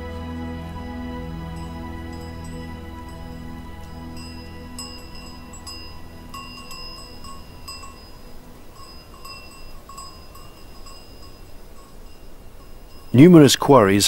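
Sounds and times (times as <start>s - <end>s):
low steady hum: 0.0s - 13.3s
goat bells clinking: 1.6s - 13.5s.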